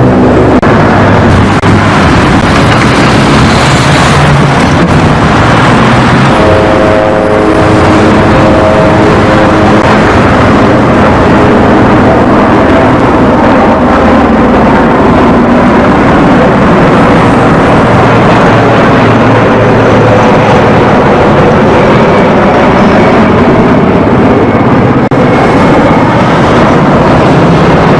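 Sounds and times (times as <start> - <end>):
helicopter turbine and rotor noise: 0.0 - 27.9.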